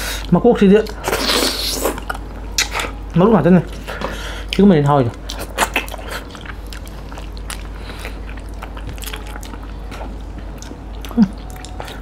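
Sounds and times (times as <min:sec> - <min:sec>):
faint low hum: 0:00.0 - 0:12.0
person chewing and crunching food: 0:00.2 - 0:12.0.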